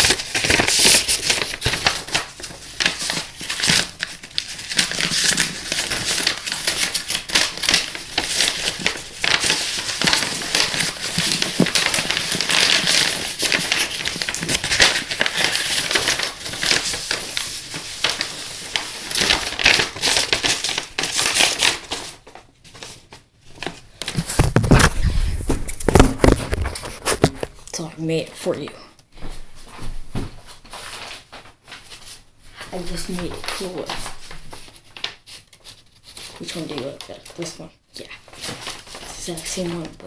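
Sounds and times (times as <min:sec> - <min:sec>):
paper crinkling: 0:00.0 - 0:27.7, 0:30.5 - 0:40.0.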